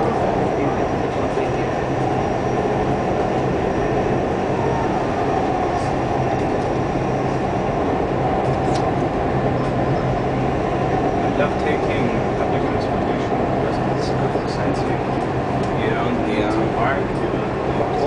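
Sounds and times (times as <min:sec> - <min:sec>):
train rumble and hum: 0:00.0 - 0:18.0.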